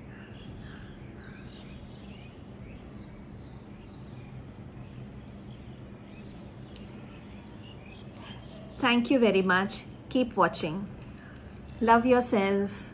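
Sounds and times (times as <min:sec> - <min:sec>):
low background hum: 0:00.0 - 0:12.9
small birds chirping: 0:00.0 - 0:12.9.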